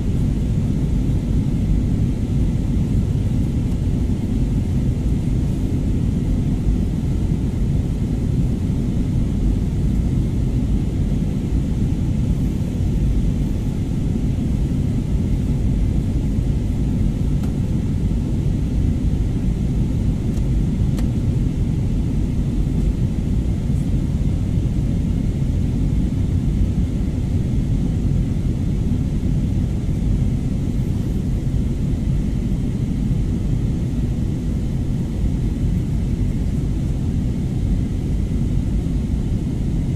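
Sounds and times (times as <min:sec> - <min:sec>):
jet airliner cabin noise: 0:00.0 - 0:39.9.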